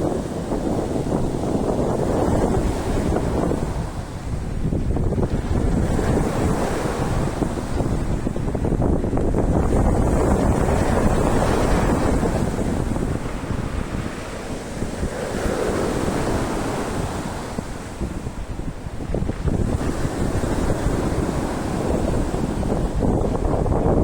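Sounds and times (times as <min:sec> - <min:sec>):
sea waves washing ashore: 0:00.0 - 0:24.0
wind buffeting microphone: 0:00.0 - 0:24.0.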